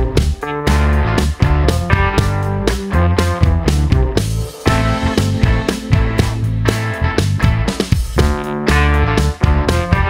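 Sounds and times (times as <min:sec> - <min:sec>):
instrumental guitar music: 0:00.0 - 0:10.0.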